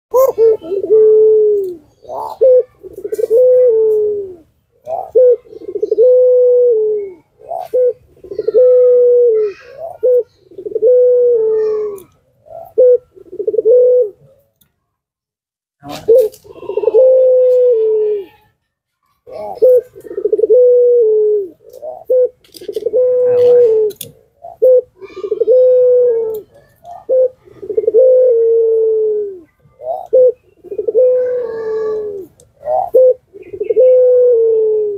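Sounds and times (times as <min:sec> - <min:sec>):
dove cooing: 0:00.1 - 0:14.4, 0:15.8 - 0:18.5, 0:19.2 - 0:34.9.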